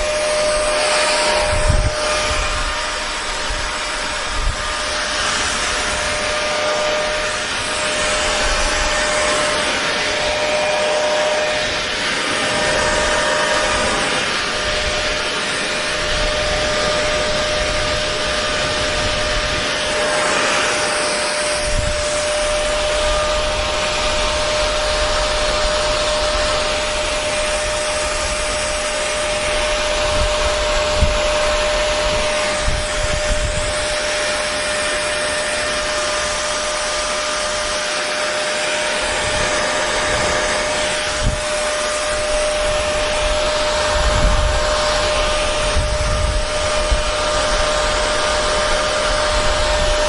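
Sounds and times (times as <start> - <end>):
hair dryer running: 0.0 - 50.0.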